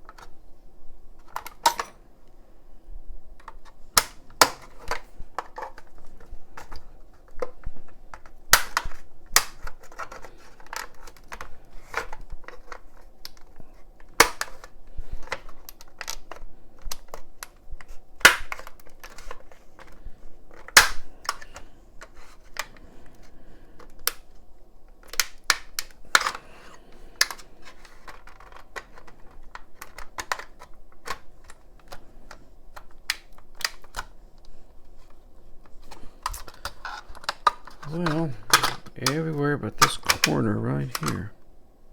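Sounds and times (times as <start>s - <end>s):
sharp plastic snaps: 3.4s - 24.4s, 25.0s - 35.2s, 35.8s - 41.2s.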